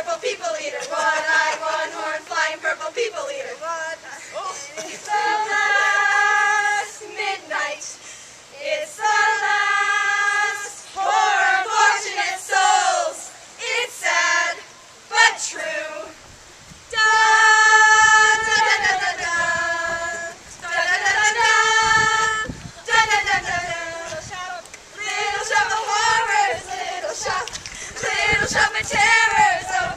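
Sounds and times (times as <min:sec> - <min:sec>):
several voices singing: 0:00.0 - 0:16.2, 0:16.9 - 0:29.9.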